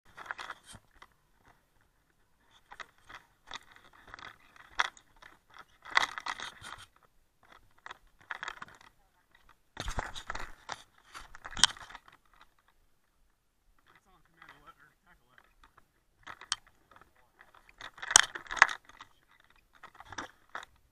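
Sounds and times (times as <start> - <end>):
gear rustling and clinking: 0.1 - 12.8, 15.3 - 20.9.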